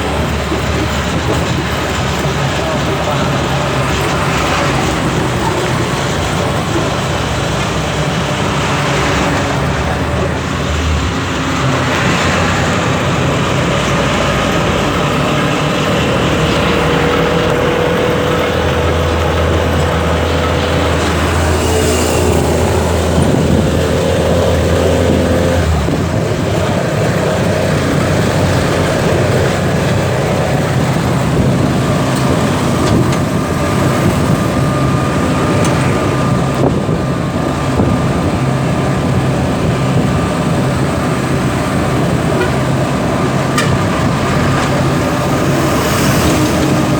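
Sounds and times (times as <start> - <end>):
road noise: 0.0 - 46.9.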